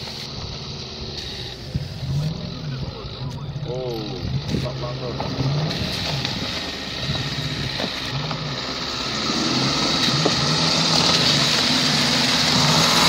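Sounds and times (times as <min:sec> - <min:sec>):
engine working under load: 0:00.0 - 0:13.0.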